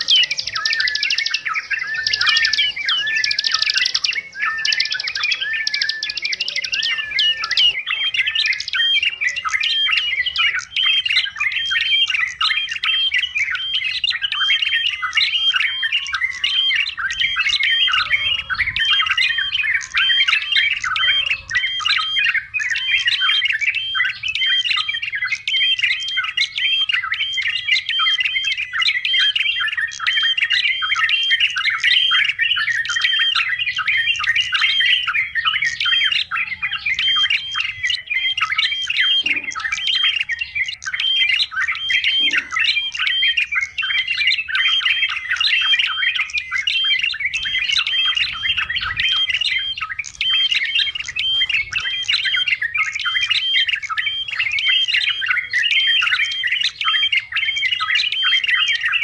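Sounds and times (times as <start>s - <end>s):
bulbuls chirping: 0.0s - 59.0s.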